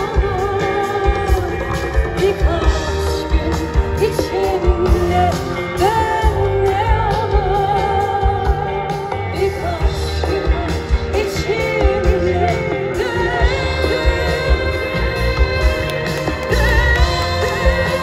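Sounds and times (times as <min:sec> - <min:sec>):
bass: 0:00.0 - 0:18.0
guitar: 0:00.0 - 0:18.0
steady drum beat: 0:00.0 - 0:18.0
woman singing: 0:00.0 - 0:18.0.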